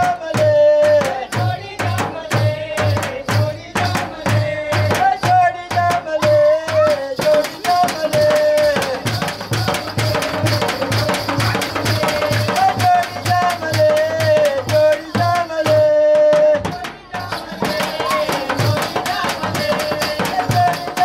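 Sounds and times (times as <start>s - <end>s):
barrel drum beating: 0.0s - 21.0s.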